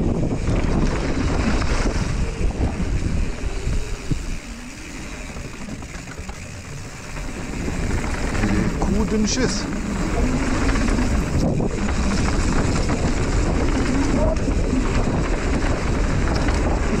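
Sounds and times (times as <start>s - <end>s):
tyre rumble: 0.0s - 17.0s
wind rushing over microphone: 0.0s - 17.0s.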